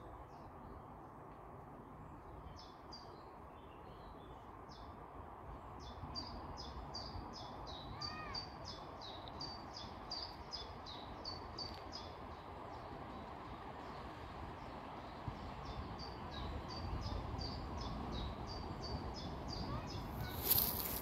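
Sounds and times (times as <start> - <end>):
faint outdoor rumble: 0.0 - 21.0.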